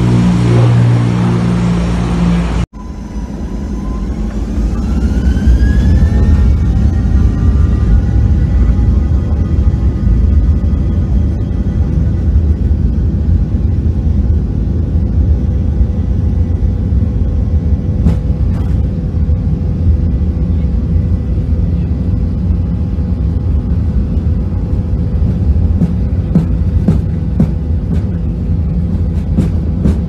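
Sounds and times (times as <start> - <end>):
jet engines and wheels rumbling: 0.0 - 30.0
steady engine tones: 0.0 - 30.0.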